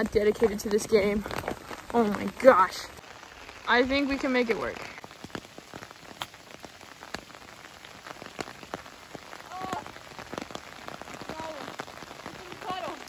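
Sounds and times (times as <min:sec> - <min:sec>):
heavy rain falling: 0:00.0 - 0:13.0
raindrops ticking close by: 0:00.0 - 0:13.0.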